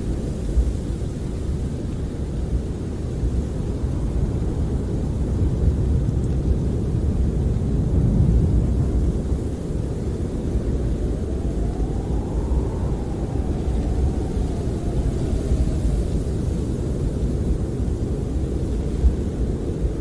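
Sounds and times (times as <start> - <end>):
snowstorm wind blowing hard: 0.0 - 20.0.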